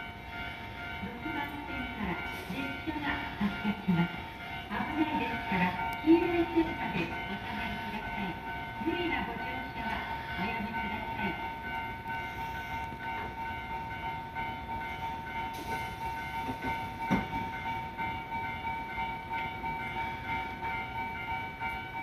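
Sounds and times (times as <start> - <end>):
electric train equipment whine: 0.0 - 22.0.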